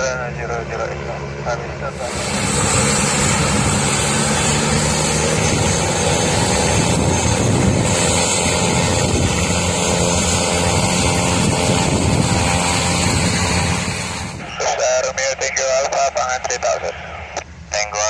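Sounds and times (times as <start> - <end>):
turboprop engine droning: 0.0 - 18.0.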